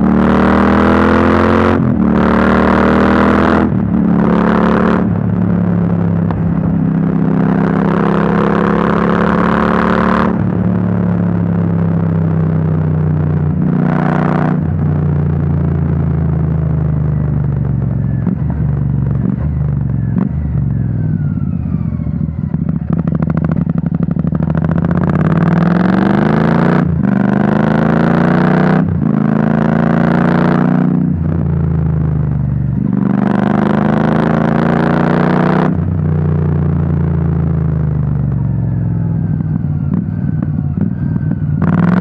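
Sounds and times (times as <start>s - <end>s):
motorcycle engine idling and revving: 0.0s - 42.0s.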